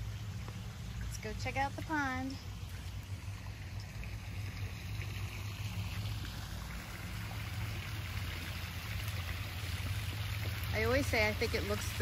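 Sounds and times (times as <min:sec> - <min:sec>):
low steady hum: 0:00.0 - 0:12.0
water trickling and splashing: 0:00.0 - 0:12.0.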